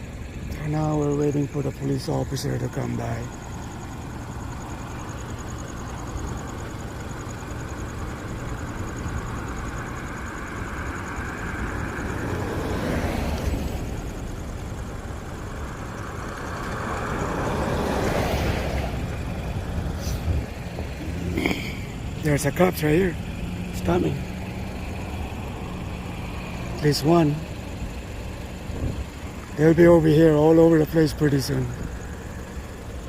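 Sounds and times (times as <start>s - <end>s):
road traffic rumble: 0.0s - 33.0s
vehicle passing: 0.6s - 33.0s.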